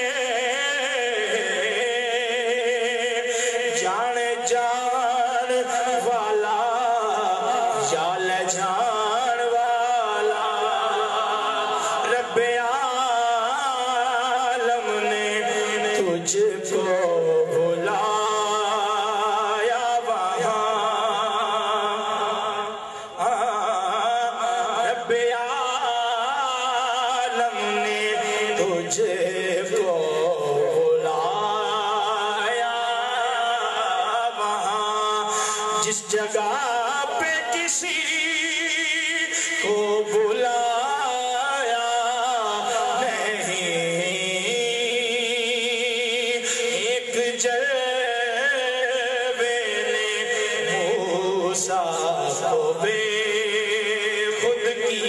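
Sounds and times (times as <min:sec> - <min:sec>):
man singing devotional poem: 0:00.0 - 0:55.0.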